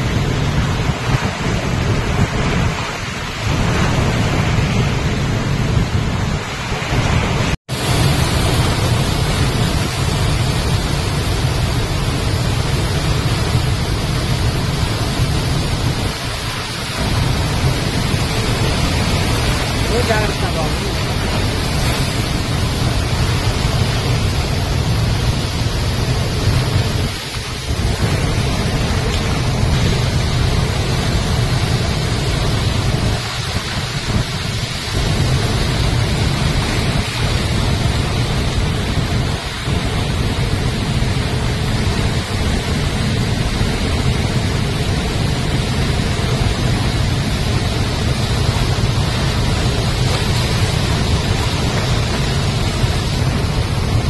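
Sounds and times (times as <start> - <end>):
floodwater roaring over boulders: 0.0 - 54.0.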